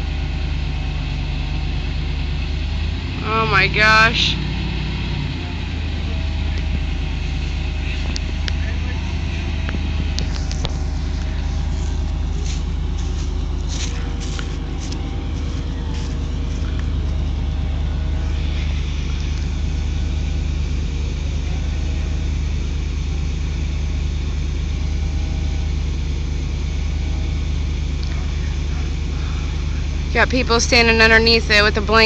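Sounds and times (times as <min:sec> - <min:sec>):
truck engine rumbling: 0:00.0 - 0:32.0.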